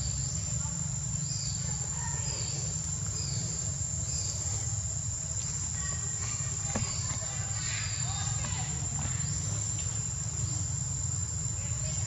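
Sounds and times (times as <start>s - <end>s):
insect chorus drone: 0.0s - 12.0s
low steady rumble: 0.0s - 12.0s.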